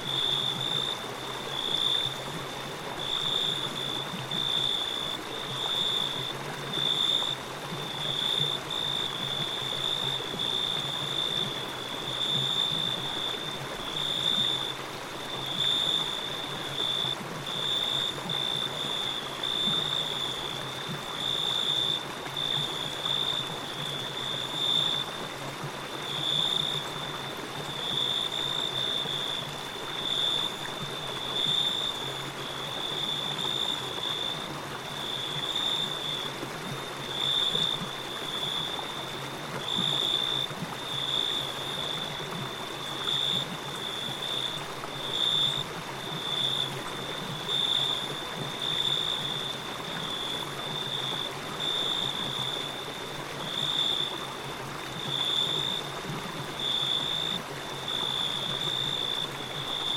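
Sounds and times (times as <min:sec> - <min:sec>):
stream rushing and trickling: 0:00.0 - 0:59.9.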